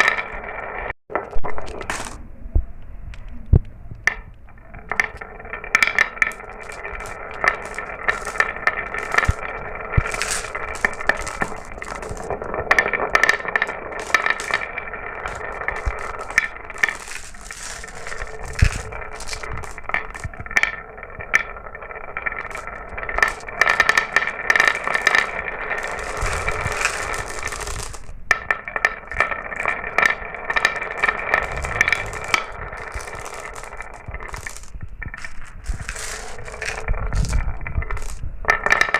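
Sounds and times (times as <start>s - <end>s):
marbles clicking and clacking: 0.0s - 2.2s, 4.0s - 38.9s
marbles rolling on a track: 0.0s - 2.2s, 4.0s - 38.9s.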